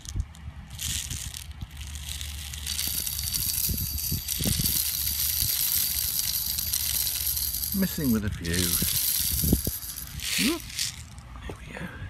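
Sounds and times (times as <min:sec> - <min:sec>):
steel bbs rattling into gun: 0:00.0 - 0:11.2.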